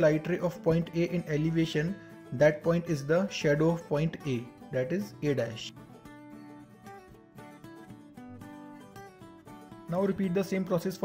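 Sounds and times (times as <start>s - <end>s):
plucked guitar melody: 0.0s - 11.0s.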